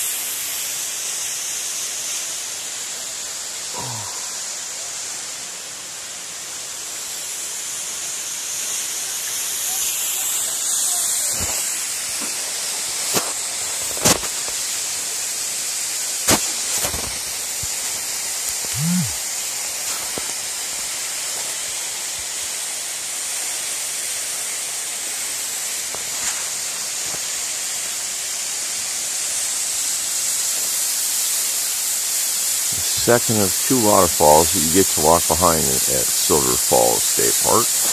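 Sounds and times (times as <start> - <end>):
waterfall rushing hiss: 0.0 - 37.9.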